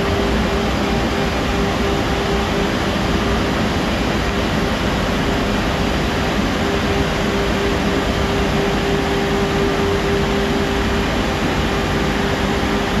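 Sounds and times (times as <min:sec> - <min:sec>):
constant machine hum: 0:00.0 - 0:13.0.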